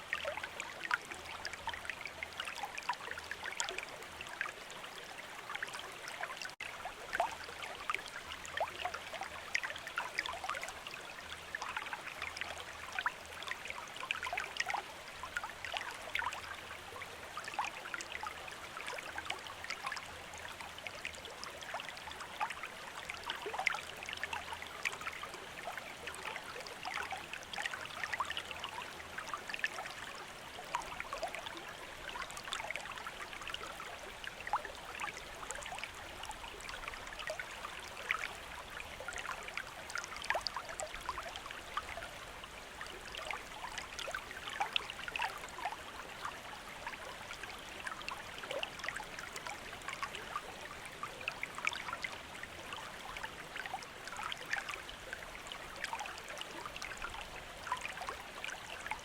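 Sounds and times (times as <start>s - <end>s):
river water babbling: 0.0s - 59.0s.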